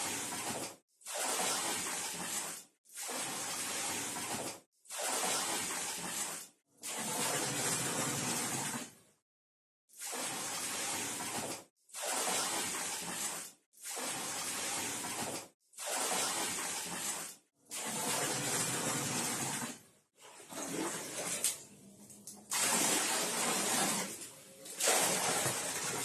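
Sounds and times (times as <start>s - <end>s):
water pouring into a bucket: 0.0s - 9.0s, 9.9s - 26.0s.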